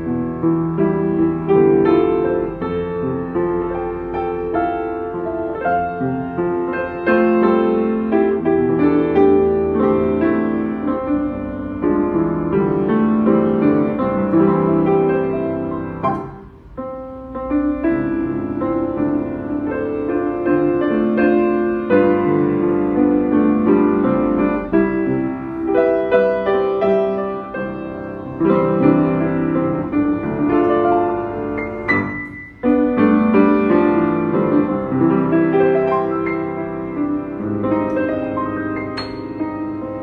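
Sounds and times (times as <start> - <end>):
upright piano playing: 0.0 - 40.0.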